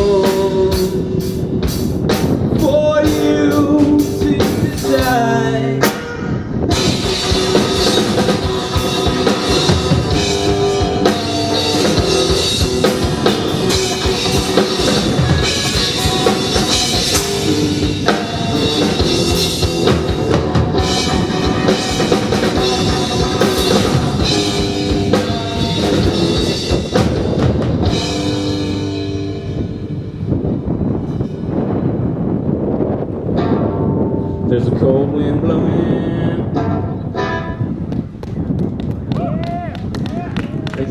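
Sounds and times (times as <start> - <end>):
live rock band playing: 0.0 - 31.9, 36.6 - 37.8.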